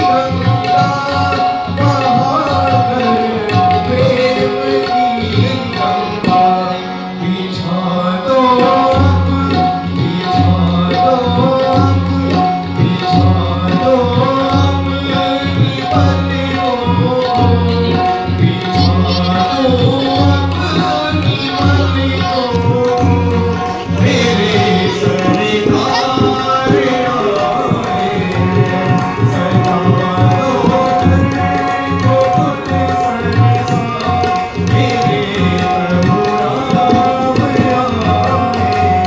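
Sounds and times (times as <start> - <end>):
harmonium melody over drone: 0.0 - 39.0
tabla rhythm: 0.0 - 39.0.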